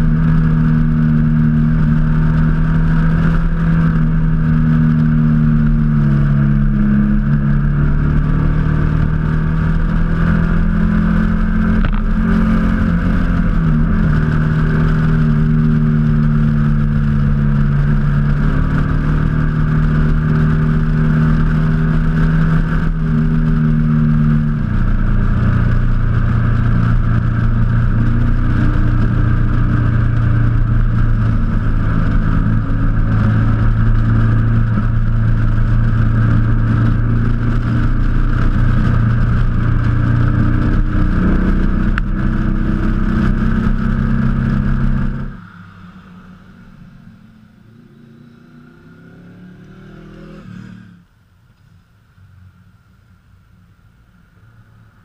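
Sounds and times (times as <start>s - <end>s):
wind noise on microphone: 0.0s - 45.4s
motorcycle engine running: 0.0s - 51.1s.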